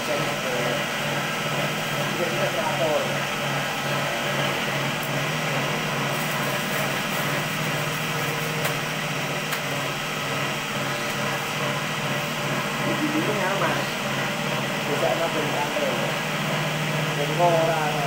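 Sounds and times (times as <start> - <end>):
cotton candy machine humming: 0.0 - 18.0.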